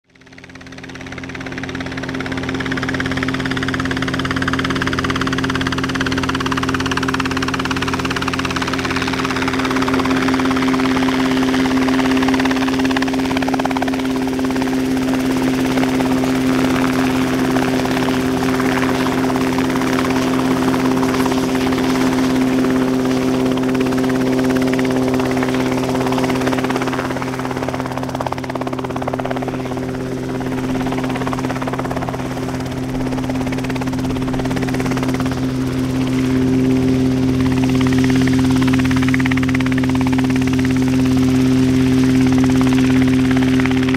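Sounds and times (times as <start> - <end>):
helicopter hovering: 0.0 - 43.9.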